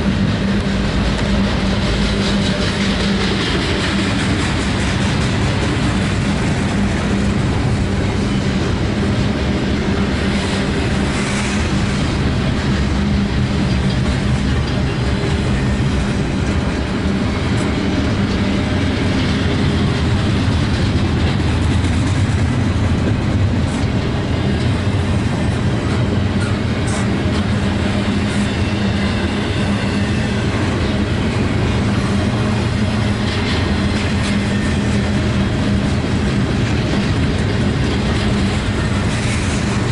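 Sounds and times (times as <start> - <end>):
clickety-clack over rail joints: 0.0 - 39.9
train wheels on rail: 0.0 - 39.9.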